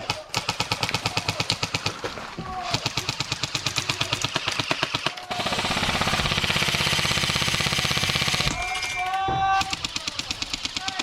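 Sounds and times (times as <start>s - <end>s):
airsoft guns firing bursts: 0.0s - 11.0s.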